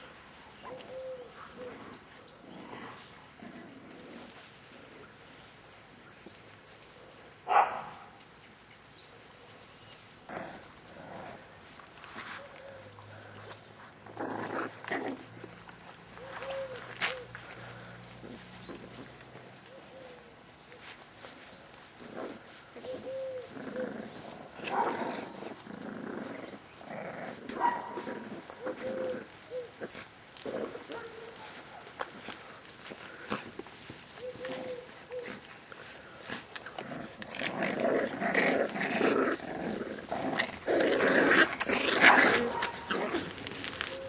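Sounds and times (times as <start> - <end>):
puppies growling: 0.6 - 5.0, 10.2 - 20.2, 20.8 - 44.0.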